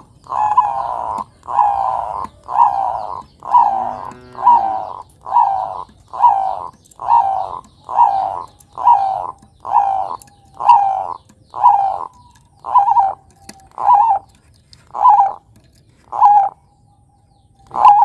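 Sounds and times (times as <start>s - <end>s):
dove cooing: 0.0s - 16.8s, 17.5s - 18.0s.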